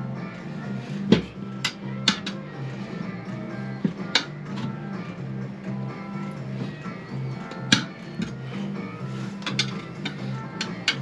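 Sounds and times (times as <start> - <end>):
guitar music with bass notes: 0.0 - 11.0.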